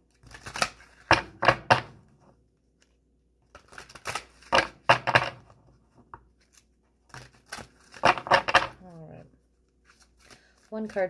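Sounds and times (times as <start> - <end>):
cards being shuffled: 0.1 - 1.4, 2.6 - 11.0.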